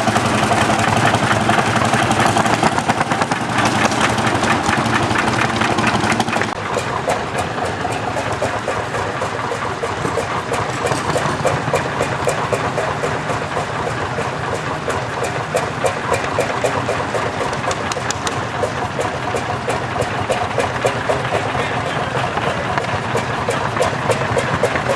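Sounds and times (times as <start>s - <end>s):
louder engine close by: 0.0s - 24.9s
tractor engines idling with rapid knock: 0.0s - 24.9s.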